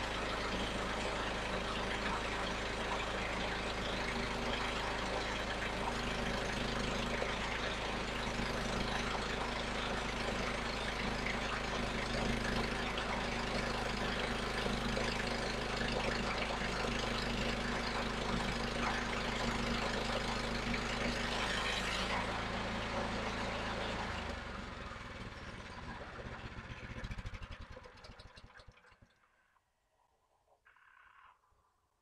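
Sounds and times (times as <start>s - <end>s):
sawmill engine running: 0.0s - 28.7s.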